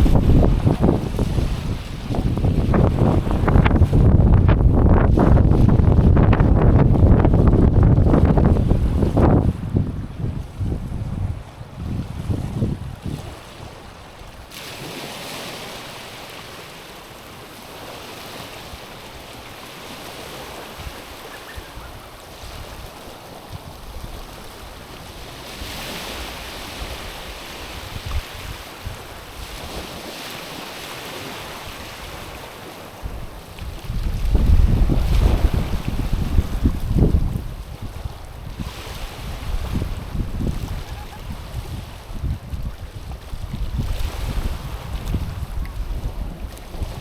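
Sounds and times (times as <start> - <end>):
waves lapping on pebbles: 0.0 - 4.2, 12.1 - 47.0
wind buffeting microphone: 0.0 - 14.2, 19.9 - 30.0, 31.1 - 47.0.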